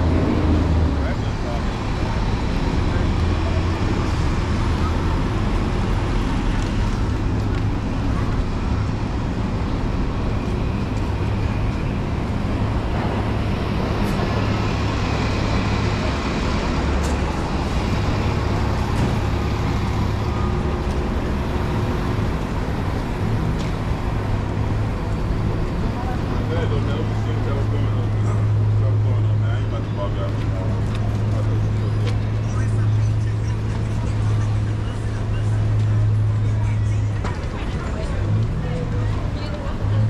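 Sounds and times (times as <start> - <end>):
traffic engine rumble: 0.0 - 40.0.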